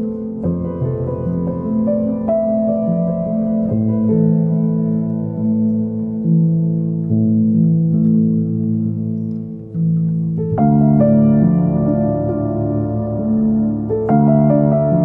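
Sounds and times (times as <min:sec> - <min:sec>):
instrumental music with sustained chords: 0:00.0 - 0:15.0.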